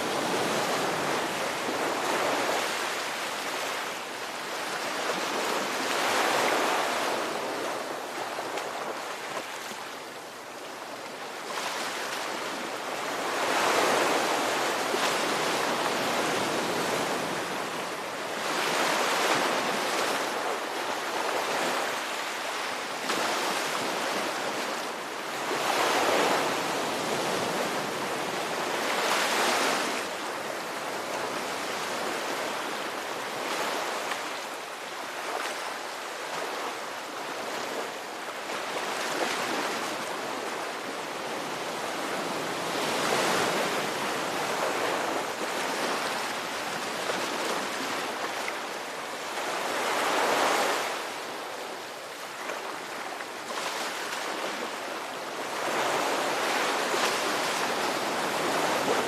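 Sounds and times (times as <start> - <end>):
ocean waves breaking: 11.4 - 59.0.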